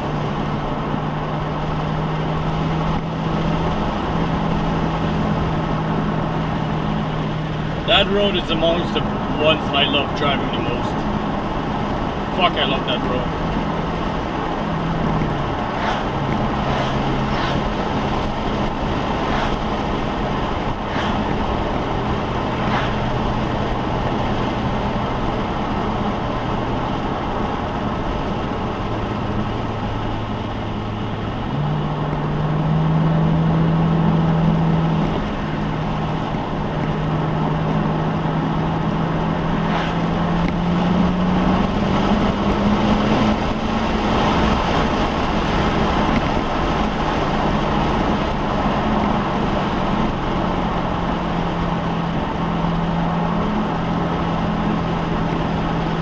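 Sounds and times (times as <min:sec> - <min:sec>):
car engine shifting gears: 0:00.0 - 0:56.0.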